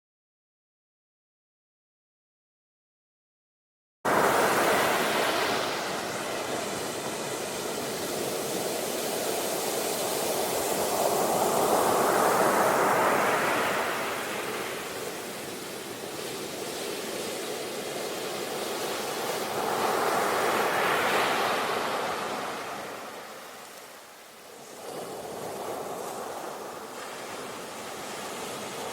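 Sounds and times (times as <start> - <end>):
sea waves breaking: 4.1 - 28.9.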